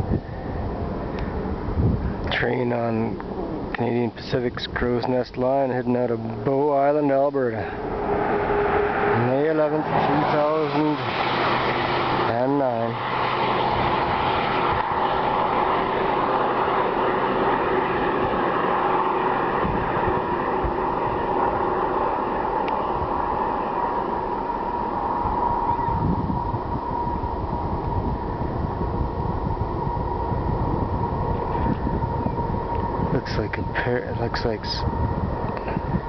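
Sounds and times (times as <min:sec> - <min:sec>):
diesel train growling rumble: 0:00.0 - 0:36.0
thin whining tone: 0:02.0 - 0:36.0.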